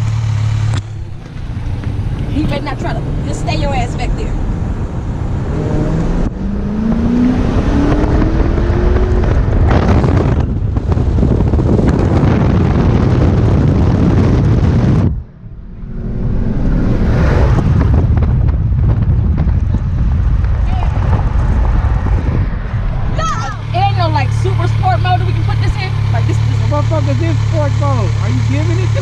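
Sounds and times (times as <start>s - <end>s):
car engine accelerating hard: 0.0s - 29.0s
wind and road noise: 0.0s - 29.0s.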